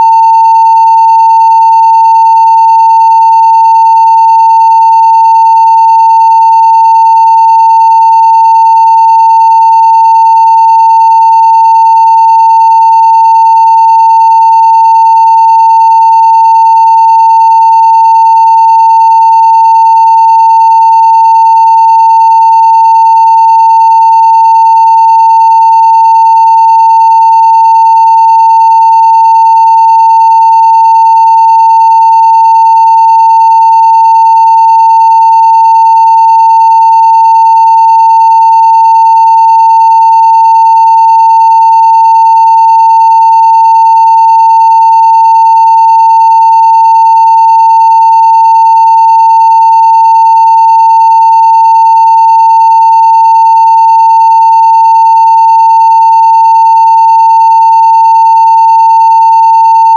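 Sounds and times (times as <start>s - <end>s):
pure sine test tone: 0.0s - 59.9s.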